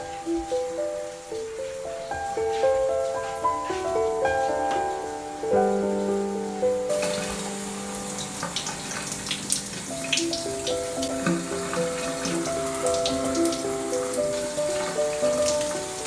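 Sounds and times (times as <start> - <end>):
background music with held notes: 0.0 - 16.0
shower spraying on tile: 0.0 - 16.0.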